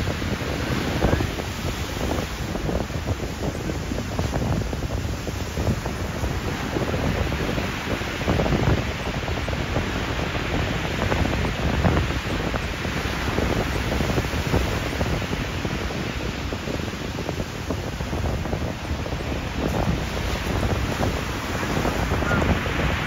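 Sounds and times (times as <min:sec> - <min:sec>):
surf roar on shingle: 0:00.0 - 0:23.0
waves crashing on a wall: 0:00.0 - 0:23.0
wind rumbling on microphone: 0:00.0 - 0:23.0.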